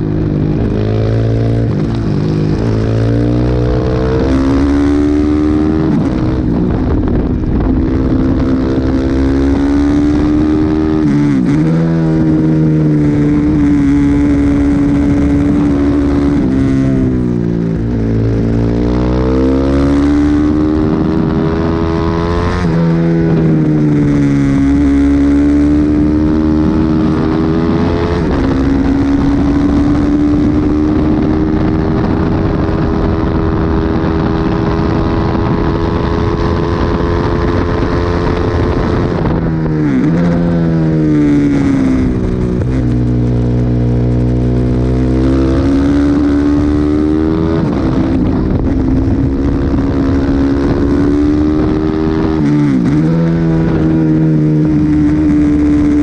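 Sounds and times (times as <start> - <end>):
motorcycle engine revving: 0.0 - 56.0
wind rushing: 0.0 - 56.0.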